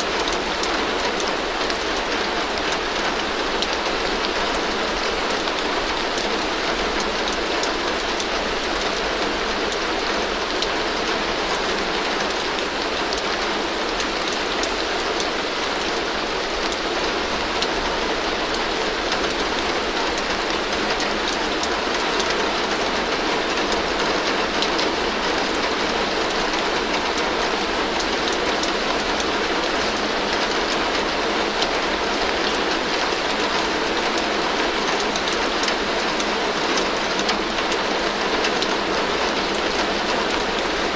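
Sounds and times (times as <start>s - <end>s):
heavy rain on a tin roof: 0.0s - 40.9s.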